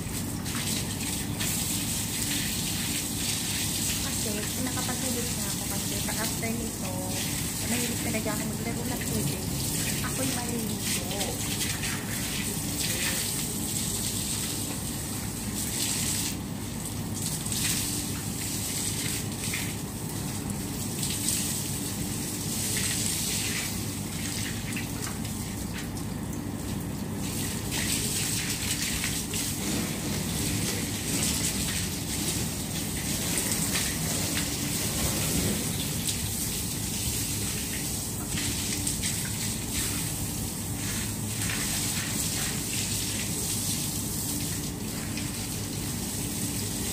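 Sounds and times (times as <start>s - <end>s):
water gushing from a hose: 0.0s - 46.9s.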